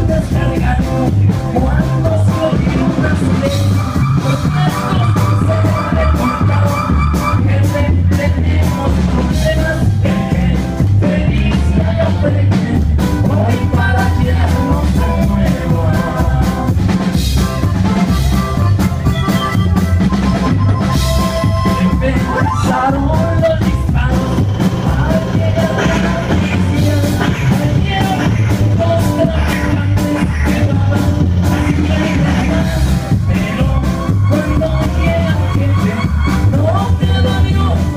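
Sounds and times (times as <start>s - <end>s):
bass: 0.0s - 37.9s
drum-kit beat: 0.0s - 37.9s
electric guitar: 0.0s - 37.9s
melodic lead line: 0.0s - 37.9s.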